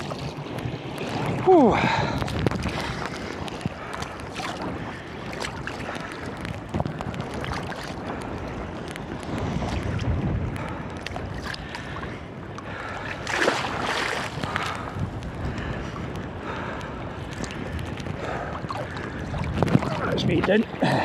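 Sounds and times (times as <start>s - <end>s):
sea water sloshing and splashing: 0.0s - 21.0s
wind on microphone: 0.0s - 21.0s.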